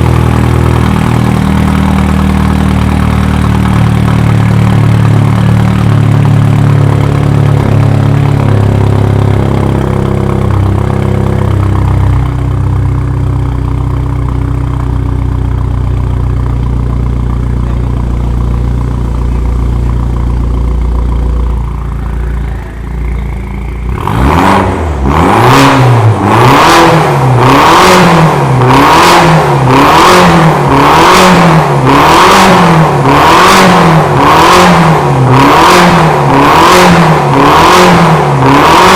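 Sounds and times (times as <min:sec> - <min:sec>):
car engine idling: 0:00.0 - 0:38.9
engine throttle blips: 0:00.0 - 0:38.9.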